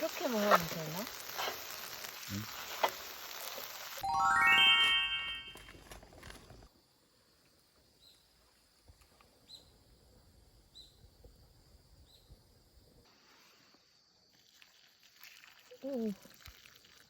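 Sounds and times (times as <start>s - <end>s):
quiet outdoor background: 0.0s - 17.0s.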